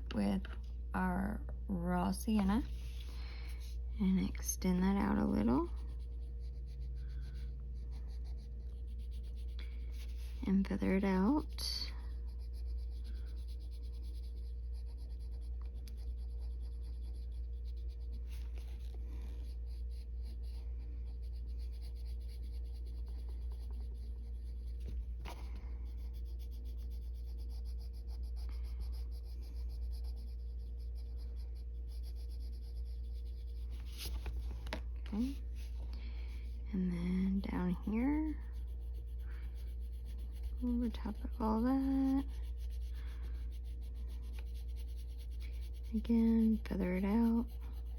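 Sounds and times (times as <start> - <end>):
steady low hum: 0.0 - 47.9
pencil scratching across paper: 2.1 - 47.9.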